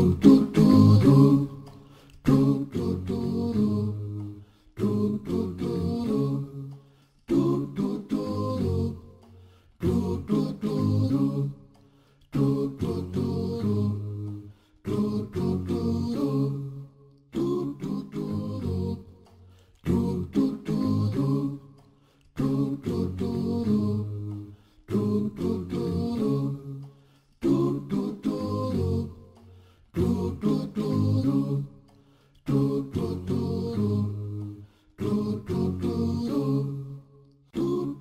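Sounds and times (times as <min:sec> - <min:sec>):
voices singing a cappella: 0:00.0 - 0:38.0.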